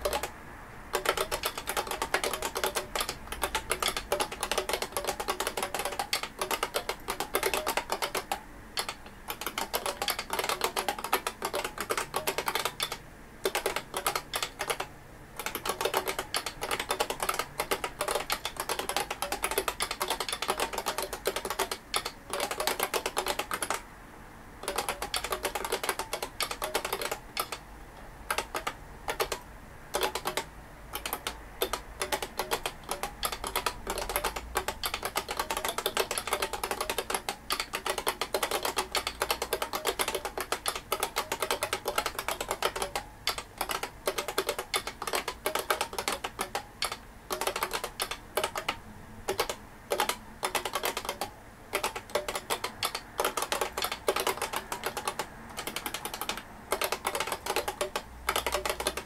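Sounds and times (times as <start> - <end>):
keyboard key clicks: 0.0 - 0.3, 0.9 - 23.8, 24.6 - 27.6, 28.3 - 59.0.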